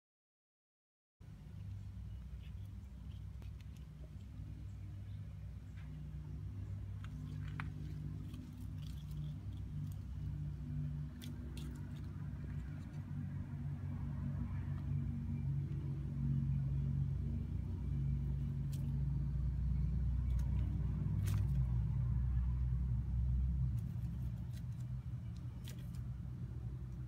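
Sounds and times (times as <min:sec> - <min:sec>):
engine humming: 0:01.2 - 0:27.0.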